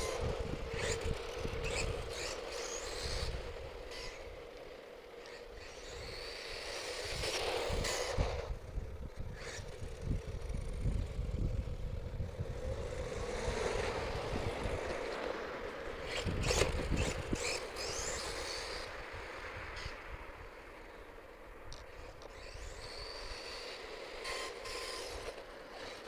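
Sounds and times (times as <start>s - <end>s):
rc truck electric motor whining: 0.0s - 26.0s.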